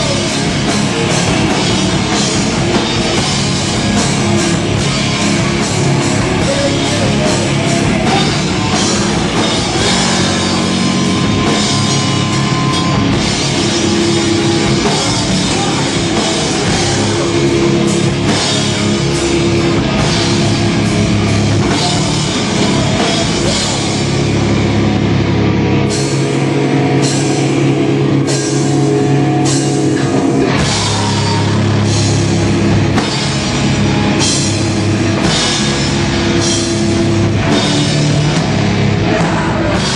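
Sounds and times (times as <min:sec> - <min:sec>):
bass guitar: 0:00.0 - 0:39.9
distorted electric guitars: 0:00.0 - 0:39.9
pounding drum kit: 0:00.0 - 0:39.9.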